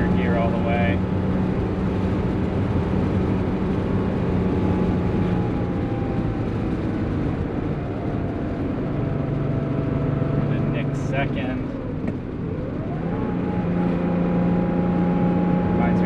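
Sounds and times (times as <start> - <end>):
car engine running: 0.0 - 16.0
tyre and road noise: 0.0 - 16.0.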